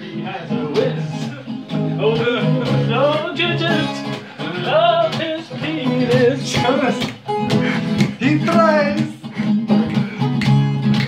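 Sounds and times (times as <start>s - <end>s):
man singing: 0.0s - 9.5s
acoustic guitar strumming: 0.0s - 11.0s.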